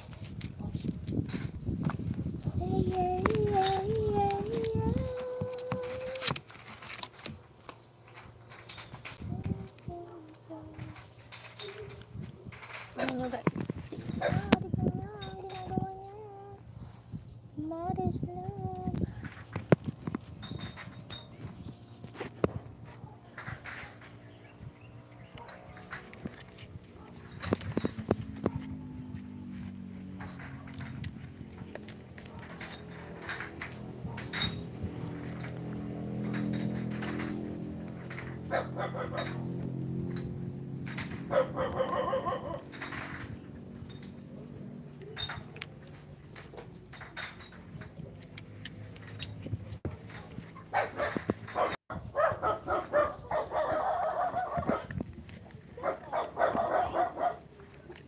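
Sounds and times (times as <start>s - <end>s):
handling clicks and rustles: 0.0s - 17.5s, 18.4s - 58.0s.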